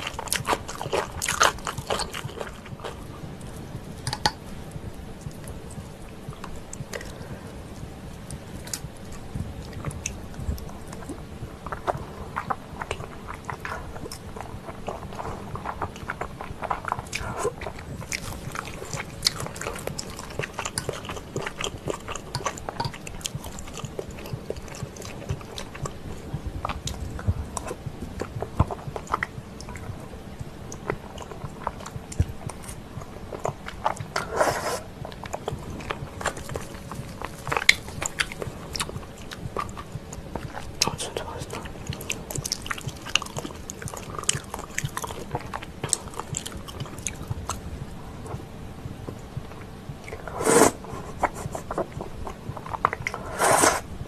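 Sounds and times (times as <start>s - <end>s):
person chewing with wet mouth sounds: 0.0s - 54.0s.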